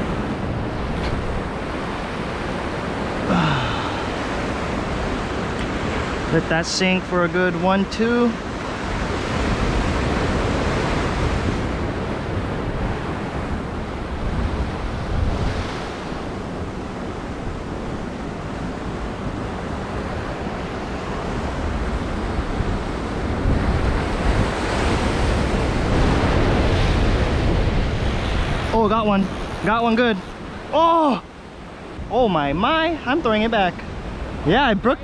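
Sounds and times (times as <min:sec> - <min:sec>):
wind buffeting microphone: 0:00.0 - 0:06.6, 0:08.4 - 0:35.0
ocean surf breaking on rocks: 0:00.0 - 0:35.0.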